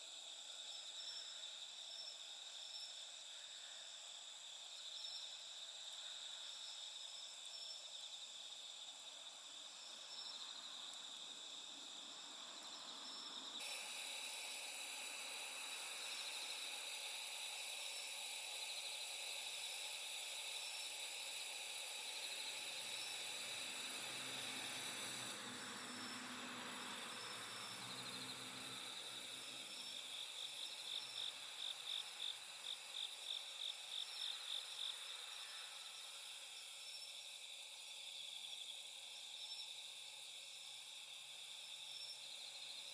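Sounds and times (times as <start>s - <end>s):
hissy insect trill: 0.0s - 42.9s
insects trilling: 0.1s - 42.9s
insect chirping in pulses: 0.2s - 42.9s.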